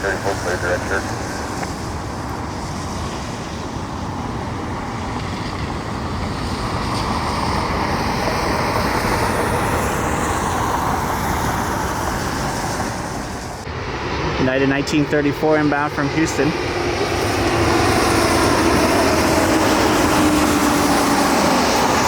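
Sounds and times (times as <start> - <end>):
jet airliner engines passing: 0.0 - 22.0.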